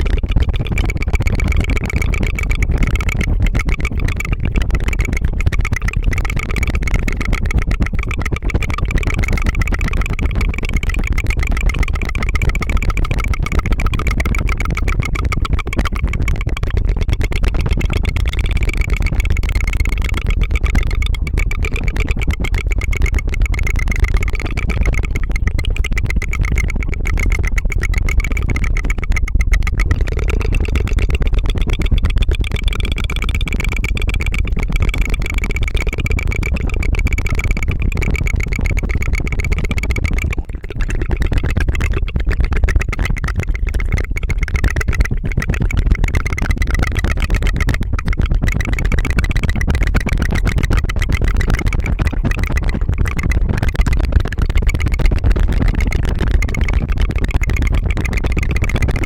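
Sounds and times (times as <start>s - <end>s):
rapid tongue fluttering: 0.0s - 59.0s.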